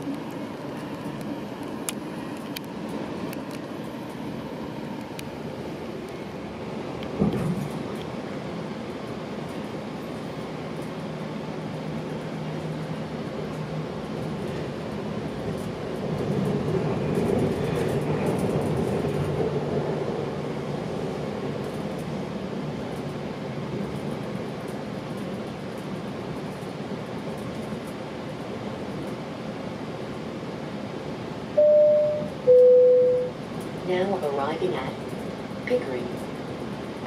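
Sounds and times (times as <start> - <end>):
train rumbling on rails: 0.0 - 37.0.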